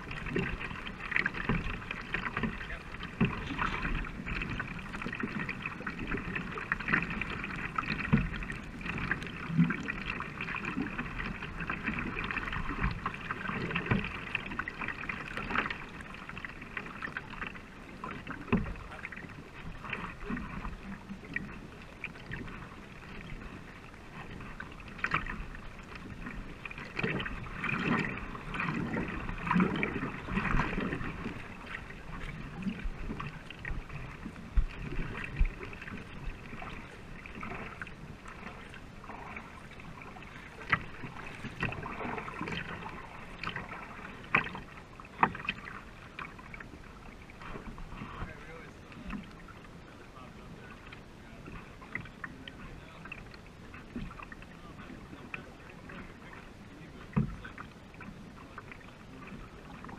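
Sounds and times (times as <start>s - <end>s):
paddle splashes: 0.0s - 59.9s
water rushing along hull: 0.0s - 59.9s.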